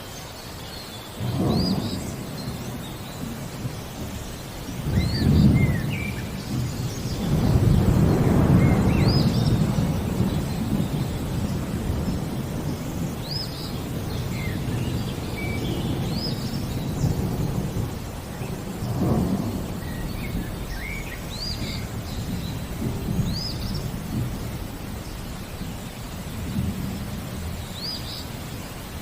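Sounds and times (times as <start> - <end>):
rain: 0.0 - 29.0
thunder rumbling: 1.2 - 28.2.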